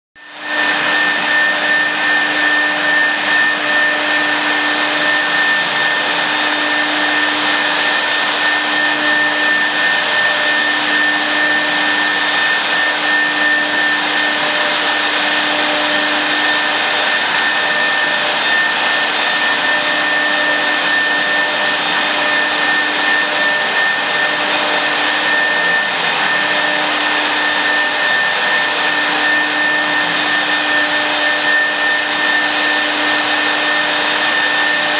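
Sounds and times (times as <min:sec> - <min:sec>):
cnc router whine: 0:00.2 - 0:34.9.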